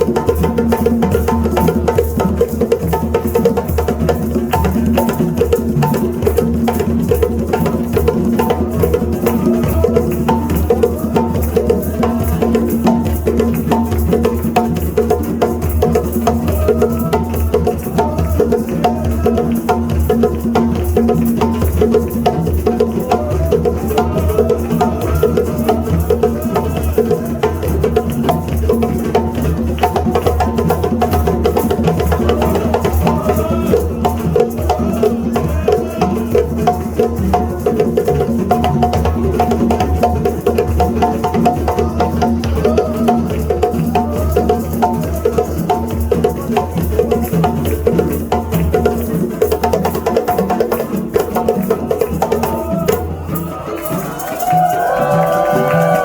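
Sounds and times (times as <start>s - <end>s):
drums playing rhythm: 0.0s - 56.0s.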